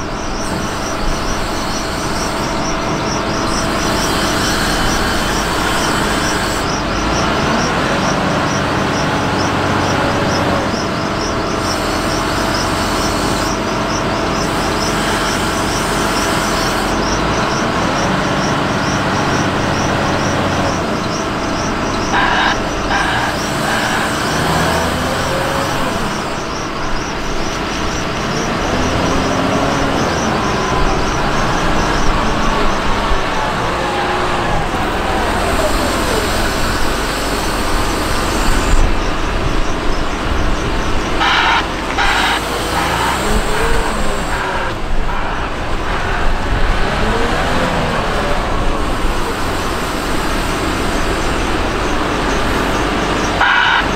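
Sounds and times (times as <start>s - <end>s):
diesel engine working hard: 0.0s - 53.9s.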